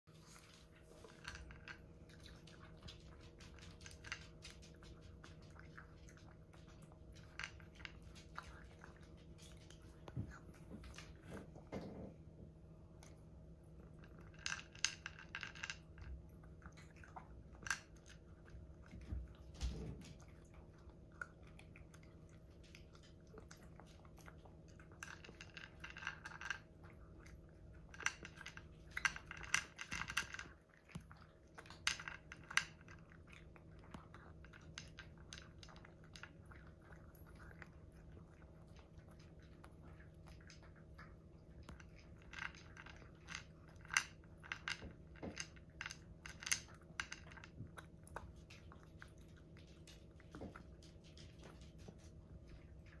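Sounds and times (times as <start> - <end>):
cat crunching dry kibble: 0.1 - 12.0, 12.6 - 53.0.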